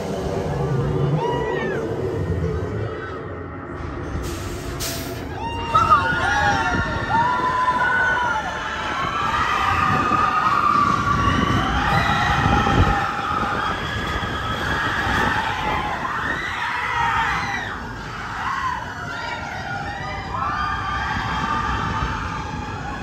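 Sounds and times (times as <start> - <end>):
roller coaster train rumbling: 0.0 - 23.0
riders screaming and whooping: 0.2 - 3.2, 5.2 - 23.0.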